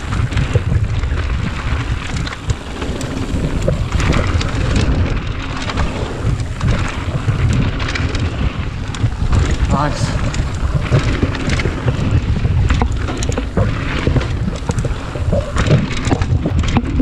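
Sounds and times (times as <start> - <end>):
bike knocks and rattles: 0.0 - 17.0
wind buffeting microphone: 0.0 - 17.0.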